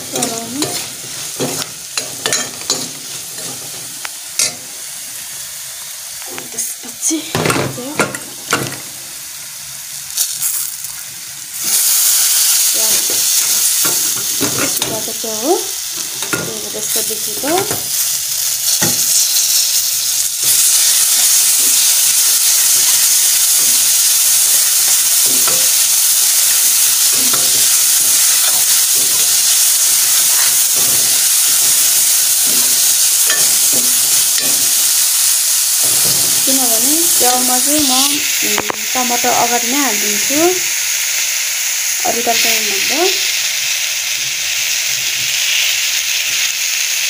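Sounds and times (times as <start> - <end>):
vegetables sizzling in oil: 0.0 - 47.0.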